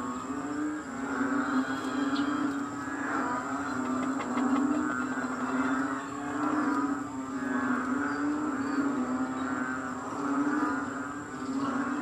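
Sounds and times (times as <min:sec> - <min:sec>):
chorus of frogs calling: 0:00.0 - 0:12.0.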